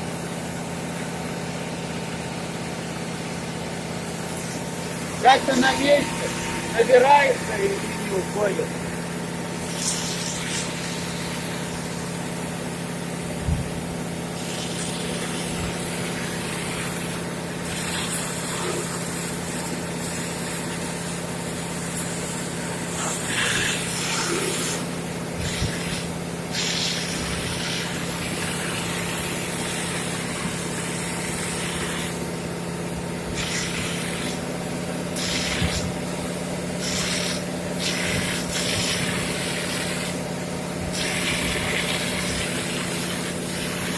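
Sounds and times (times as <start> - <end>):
fire pump running: 0.0 - 43.9
hissing water spray: 0.0 - 43.9.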